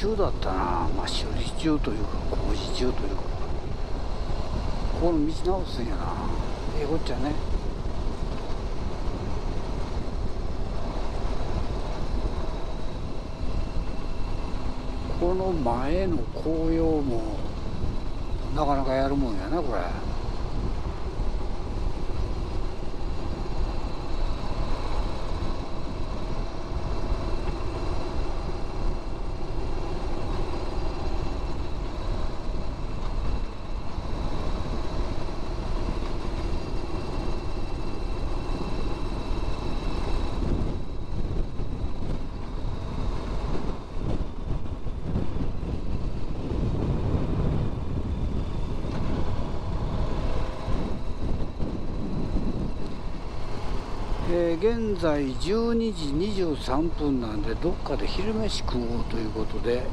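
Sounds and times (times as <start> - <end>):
wind noise: 0.0 - 59.9.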